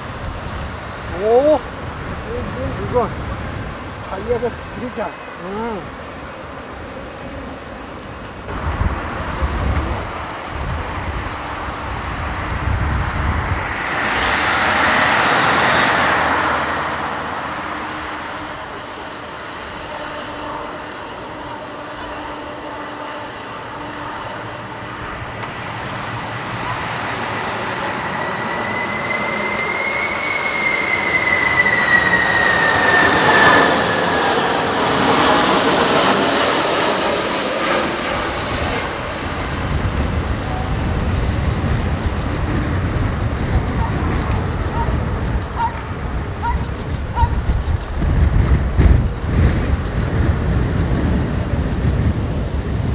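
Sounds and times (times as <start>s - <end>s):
high jet engine whine: 0.0s - 52.9s
jet engines rushing: 0.0s - 52.9s
wind buffeting microphone: 0.0s - 52.9s.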